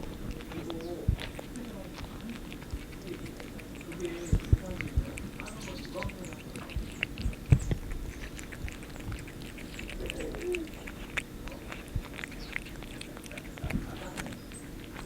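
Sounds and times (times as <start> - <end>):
cat licking and chewing: 0.0 - 15.0.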